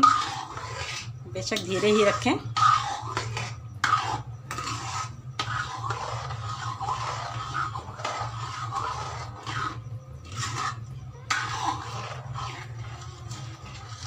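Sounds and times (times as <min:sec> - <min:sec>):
ladle scraping metal pan: 0:00.0 - 0:14.0
steady low hum: 0:00.0 - 0:14.0.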